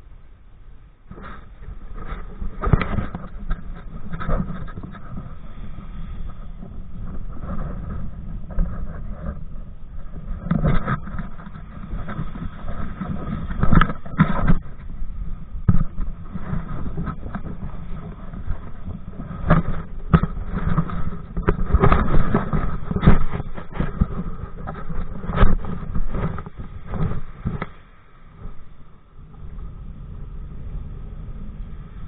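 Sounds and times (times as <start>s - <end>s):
wind rumbling on microphone: 0.0s - 32.0s
water splashing against hull: 1.0s - 32.0s.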